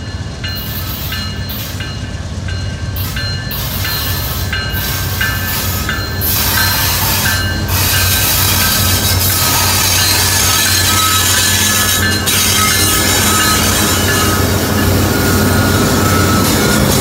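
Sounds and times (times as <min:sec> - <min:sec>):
bell ringing: 0:00.0 - 0:08.9, 0:09.7 - 0:16.8
diesel locomotives rumbling: 0:00.0 - 0:17.0.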